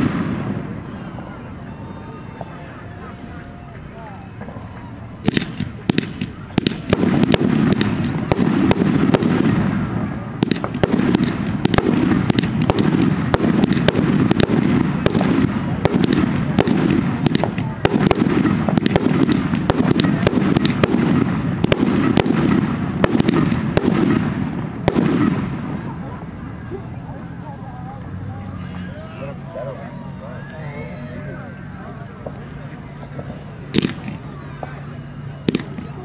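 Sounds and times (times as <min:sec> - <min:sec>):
fireworks cracking: 0:00.0 - 0:27.4, 0:32.1 - 0:36.0.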